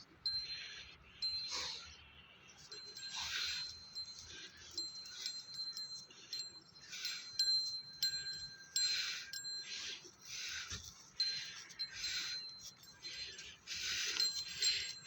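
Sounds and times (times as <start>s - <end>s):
small metal bells jingling: 0.0s - 15.0s
thin ringing tone: 0.0s - 15.0s.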